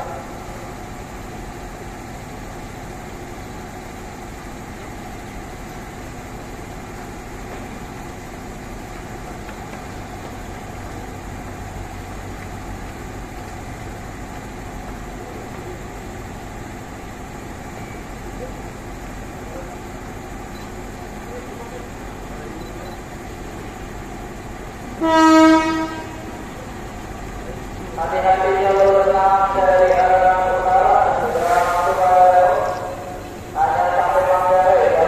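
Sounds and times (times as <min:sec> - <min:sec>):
locomotive engine humming: 0:00.0 - 0:35.0.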